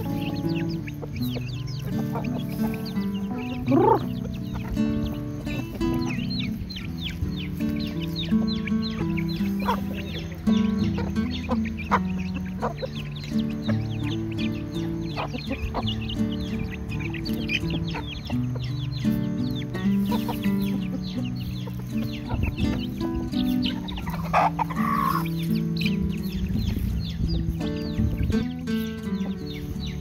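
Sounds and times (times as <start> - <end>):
background music with low notes: 0.0 - 30.0
chickens clucking and calling: 0.0 - 30.0.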